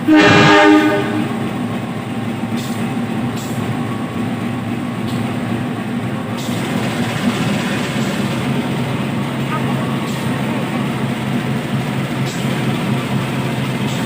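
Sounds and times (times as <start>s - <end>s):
train rumbling by: 0.0s - 14.0s.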